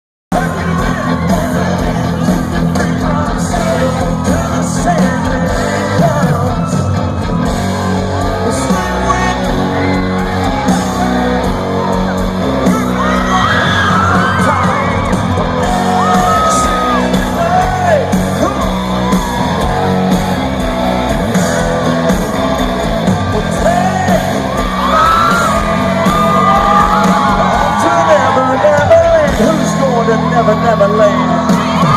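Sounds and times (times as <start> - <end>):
amplified country band with singing: 0.3 - 31.9
audience yelling and whooping: 0.4 - 31.9.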